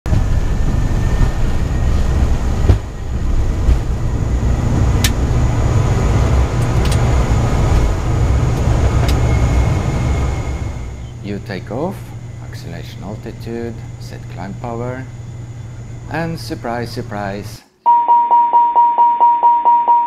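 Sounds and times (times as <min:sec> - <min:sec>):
turboprop engines rumbling: 0:00.0 - 0:17.6.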